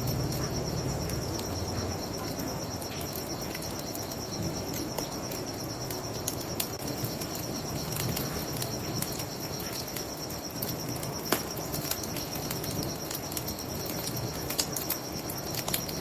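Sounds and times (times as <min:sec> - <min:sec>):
bonfire crackling: 0:00.0 - 0:16.0
crickets chirping: 0:00.0 - 0:16.0.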